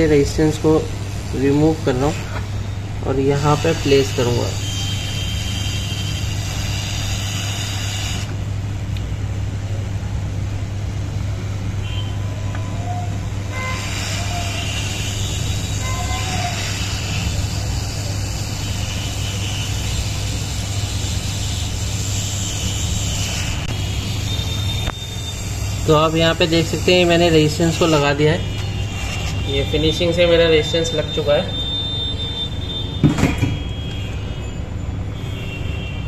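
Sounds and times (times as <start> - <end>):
hot-air rework station blowing: 0.0 - 33.0.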